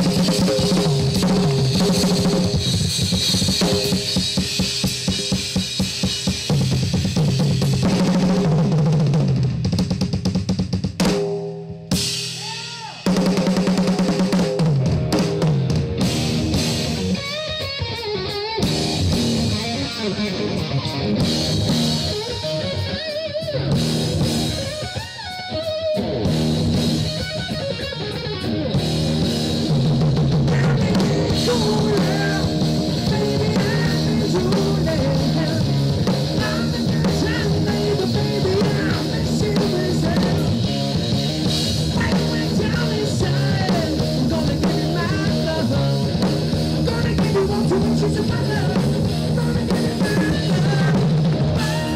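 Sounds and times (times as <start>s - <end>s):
guitar: 0.0s - 10.2s, 11.8s - 51.9s
live rock band playing: 0.0s - 51.9s.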